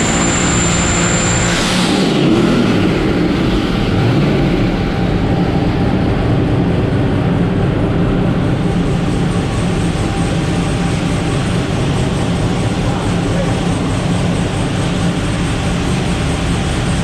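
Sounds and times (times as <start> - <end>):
loud engine running on dyno: 0.0 - 17.0.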